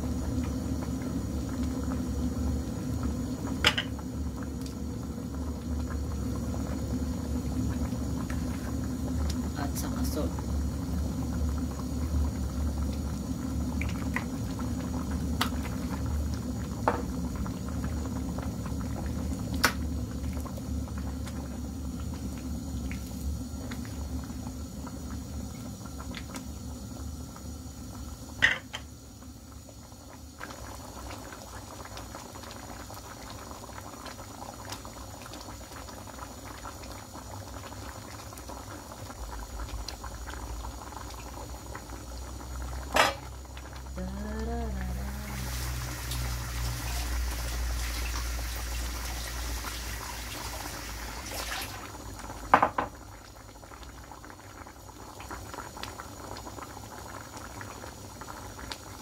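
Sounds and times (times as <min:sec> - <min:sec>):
stew bubbling in a pot: 0:00.0 - 0:59.0.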